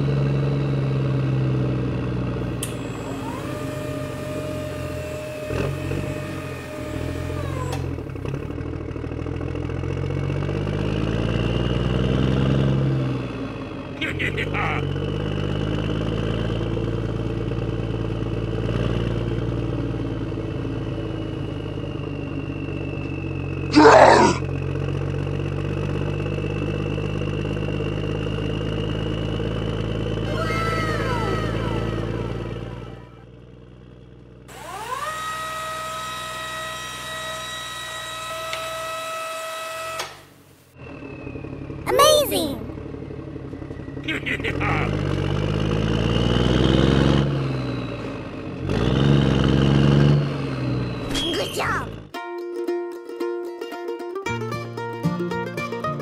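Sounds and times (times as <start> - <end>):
tractor engine running: 0.0 - 23.8, 24.4 - 56.0.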